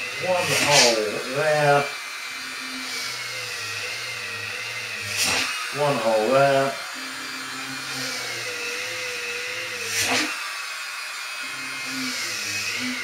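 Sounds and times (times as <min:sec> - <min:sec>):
rotary tool drilling plastic: 0:00.0 - 0:13.0.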